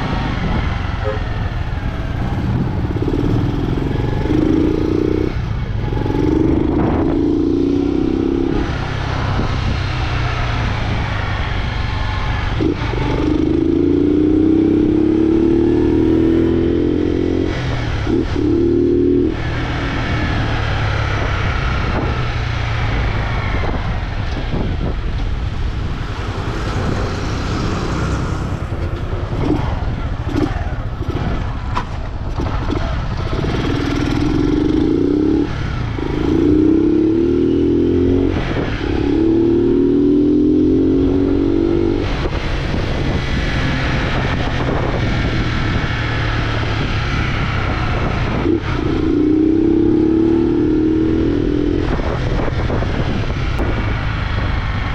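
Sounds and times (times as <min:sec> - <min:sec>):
motorcycle engine revving: 0:00.0 - 0:54.9
wind on microphone: 0:00.0 - 0:54.9.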